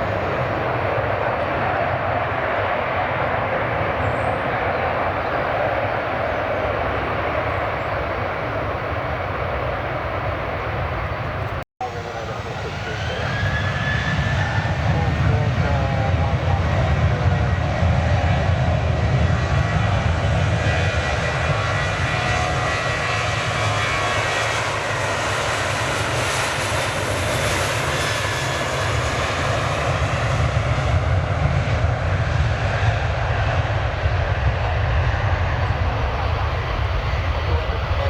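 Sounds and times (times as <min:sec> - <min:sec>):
airliner engines passing: 0:00.0 - 0:38.0.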